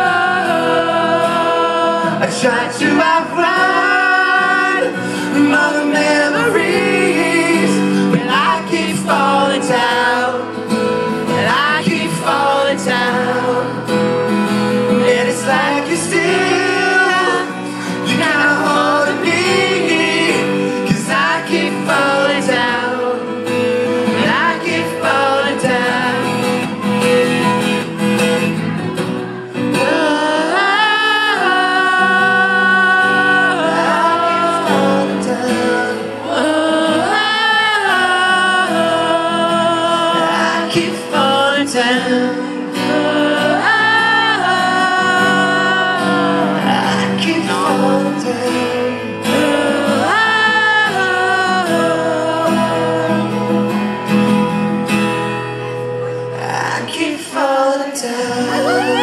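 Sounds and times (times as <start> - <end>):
man singing: 0.0 - 26.7, 29.3 - 53.8, 56.3 - 59.0
acoustic guitar strumming: 0.0 - 59.0.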